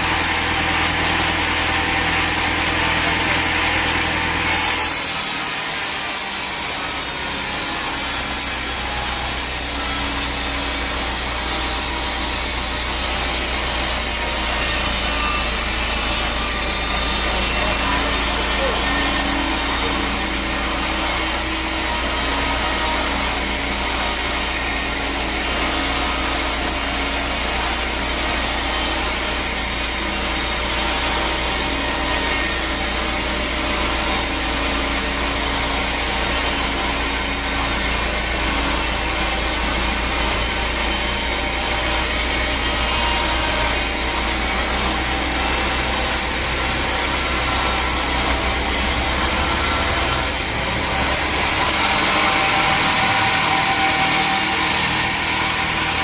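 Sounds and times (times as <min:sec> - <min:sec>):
saw cutting through log: 0:00.0 - 0:56.0.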